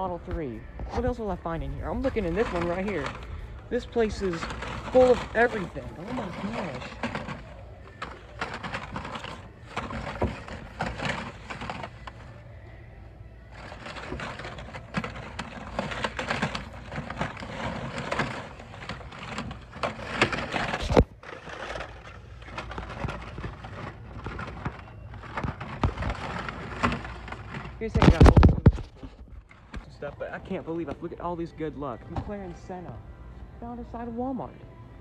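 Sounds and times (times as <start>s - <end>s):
plastic packs rustling and clicking: 0.0s - 12.4s, 13.4s - 32.7s.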